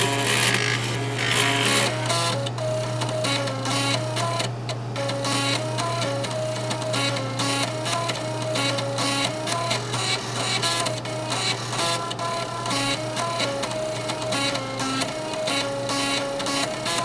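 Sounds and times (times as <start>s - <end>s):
floppy drive motors playing melody: 0.0s - 17.0s
steady low hum: 0.0s - 17.0s.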